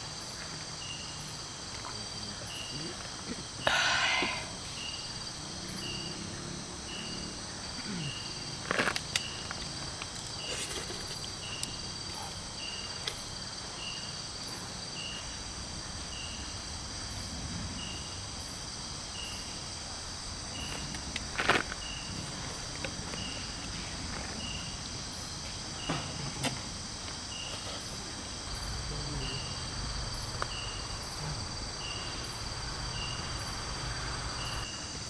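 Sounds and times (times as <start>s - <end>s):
insects chorus: 0.0s - 35.0s.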